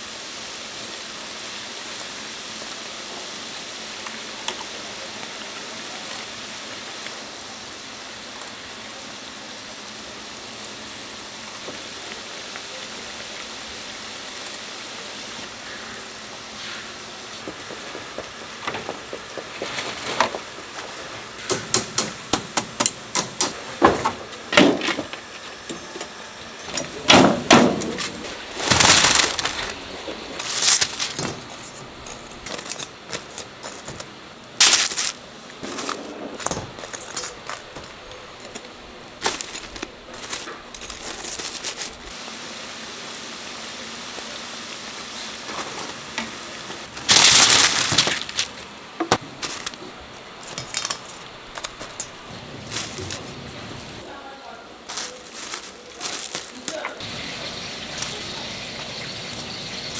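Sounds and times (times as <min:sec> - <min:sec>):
oil sizzling: 0:00.0 - 0:35.8, 0:36.4 - 0:54.0, 0:54.9 - 0:59.9.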